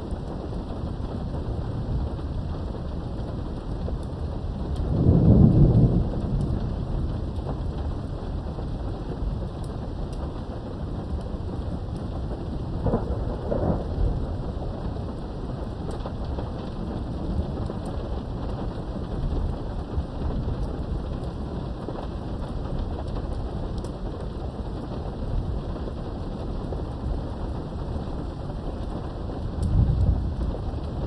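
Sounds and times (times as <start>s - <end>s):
heavy rain: 0.0s - 31.0s
rolling thunder: 0.4s - 9.5s, 10.6s - 21.1s, 25.2s - 31.0s.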